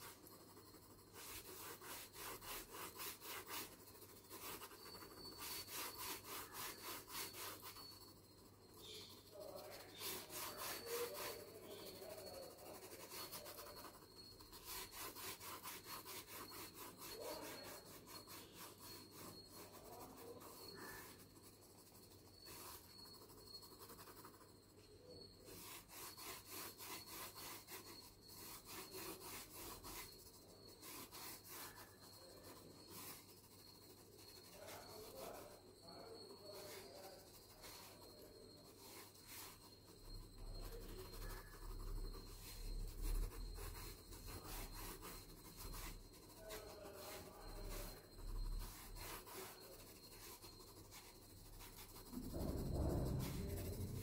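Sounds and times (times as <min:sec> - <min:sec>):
pencil scratching on paper: 0:00.0 - 0:54.0.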